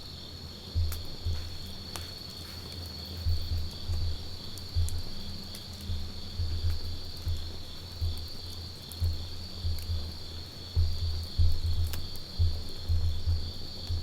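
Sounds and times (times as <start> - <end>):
campfire crackling and popping: 0.0 - 14.0
crickets chirring: 0.0 - 14.0.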